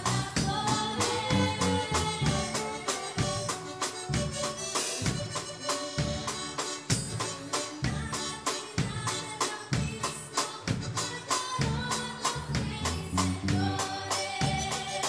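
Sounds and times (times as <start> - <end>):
drum kit: 0.0 - 15.0
electric bass: 0.0 - 15.0
keyboard: 0.0 - 15.0.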